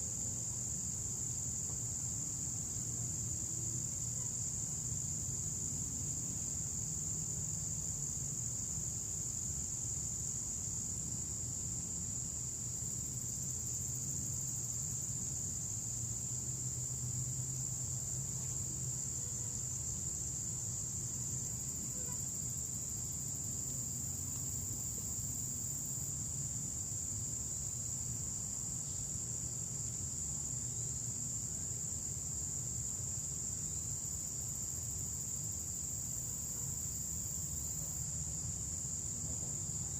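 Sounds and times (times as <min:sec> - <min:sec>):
insects trilling: 0:00.1 - 0:39.9.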